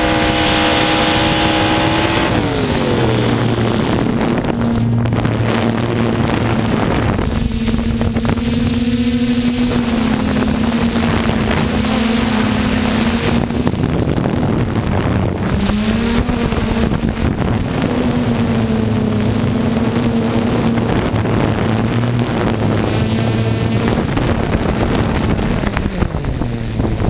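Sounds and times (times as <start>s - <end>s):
truck engine running loud: 0.0s - 27.0s.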